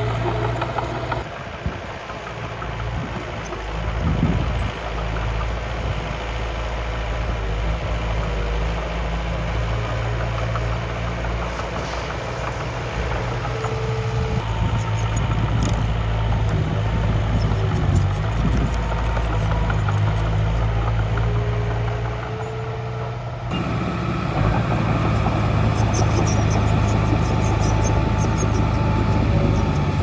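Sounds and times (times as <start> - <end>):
miniature machine engine idling hum: 0.0 - 30.0.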